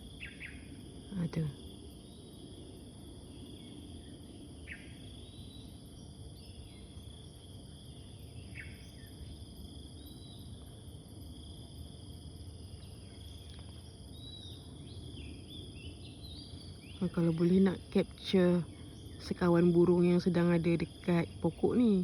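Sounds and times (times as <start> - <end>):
high insect drone: 0.0 - 22.0
small songbirds chirping: 0.0 - 22.0.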